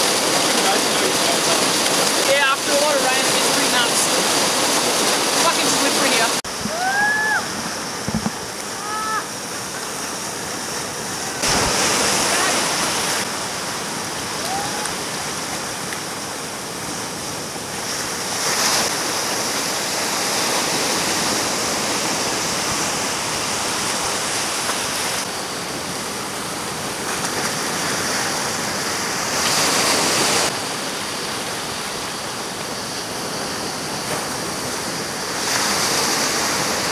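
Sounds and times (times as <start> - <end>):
ocean waves breaking: 0.0 - 36.9.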